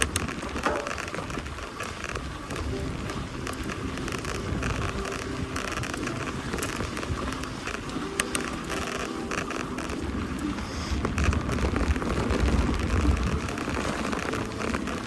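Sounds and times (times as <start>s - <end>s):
bike tyres on gravel: 0.0s - 15.0s
wind on microphone: 0.0s - 15.0s.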